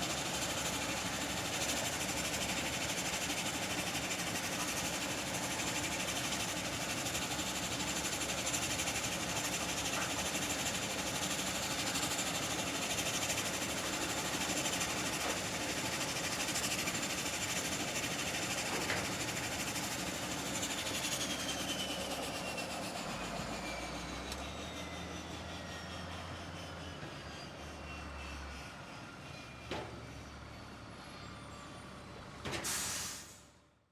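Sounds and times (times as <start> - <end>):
airplane engines roaring: 0.0 - 32.7
jet engine high whine: 0.0 - 33.4.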